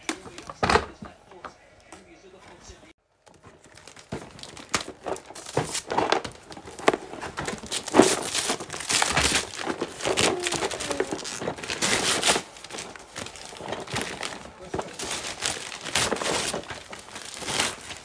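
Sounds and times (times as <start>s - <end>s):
wrapping paper tearing and crumpling: 3.4s - 18.0s.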